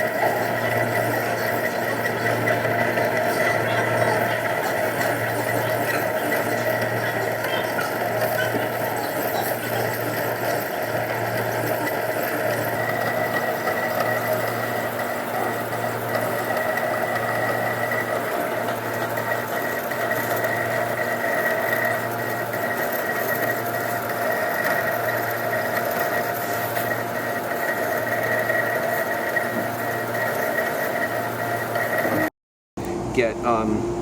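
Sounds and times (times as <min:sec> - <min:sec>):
printer mechanical whir: 0:00.0 - 0:34.0.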